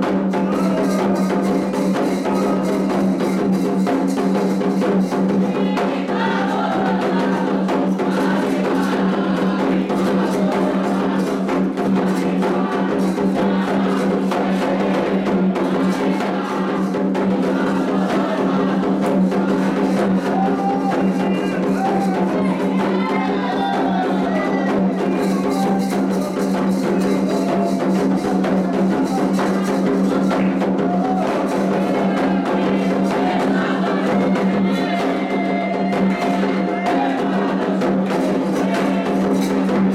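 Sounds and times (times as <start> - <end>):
hand drums playing: 0.0 - 39.9
voices singing: 0.0 - 39.9.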